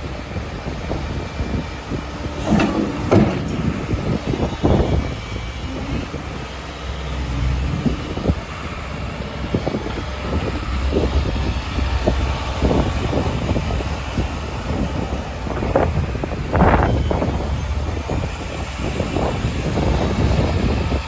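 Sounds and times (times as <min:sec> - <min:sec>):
excavator diesel engine running: 0:00.0 - 0:21.0
hydraulics working: 0:00.0 - 0:21.0
wind on microphone: 0:00.0 - 0:21.0.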